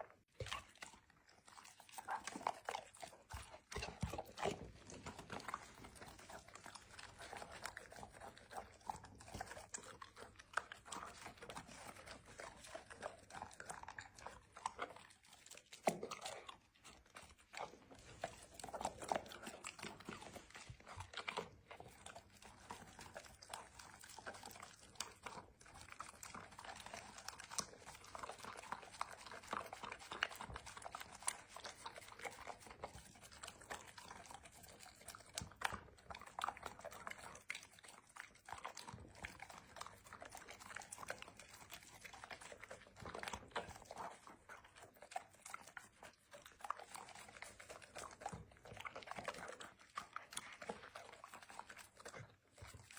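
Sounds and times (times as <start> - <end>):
dog crunching food: 0.0 - 52.9.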